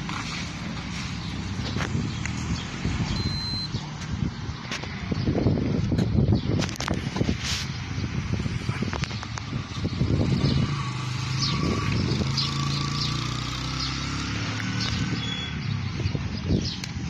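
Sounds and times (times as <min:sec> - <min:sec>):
vehicle engine running: 0:00.0 - 0:16.4.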